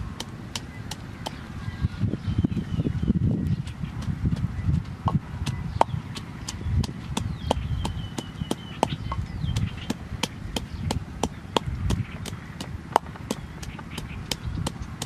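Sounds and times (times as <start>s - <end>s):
pestle pounding in a mortar: 0.0s - 1.6s, 3.6s - 15.0s.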